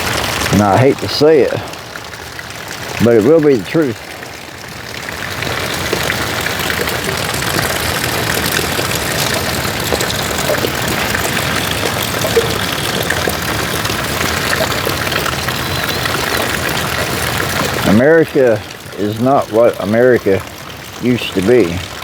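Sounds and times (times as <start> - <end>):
rain drop ticks: 0.0 - 22.0
steady rain hiss: 0.0 - 22.0.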